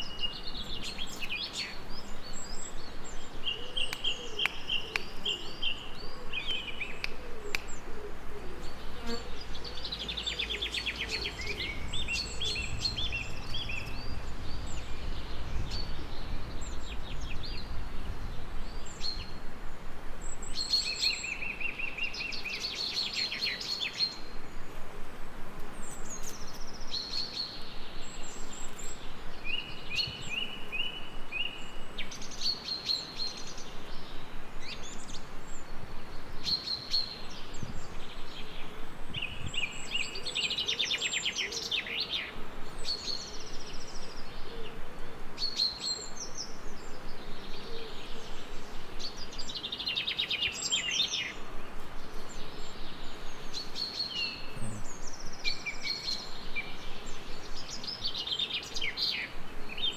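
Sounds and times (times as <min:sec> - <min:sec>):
songbirds singing and trilling: 0:00.0 - 0:24.8, 0:25.6 - 0:59.9
gentle rain hiss: 0:00.0 - 0:59.9.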